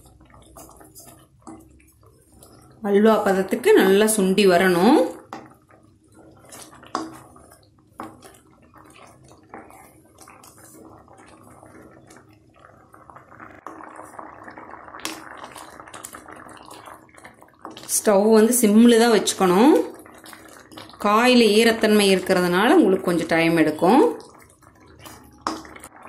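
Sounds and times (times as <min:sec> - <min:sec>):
spatula stirring and scraping: 0:00.0 - 0:26.0
thick syrup bubbling and popping: 0:00.0 - 0:26.0.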